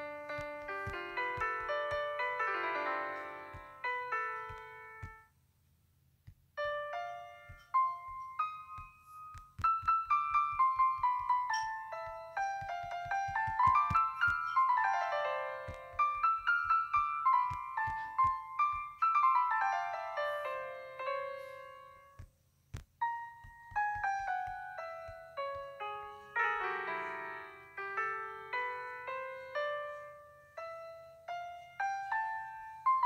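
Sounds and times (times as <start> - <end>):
piano melody: 0.0 - 5.3, 6.5 - 22.3, 23.0 - 33.0.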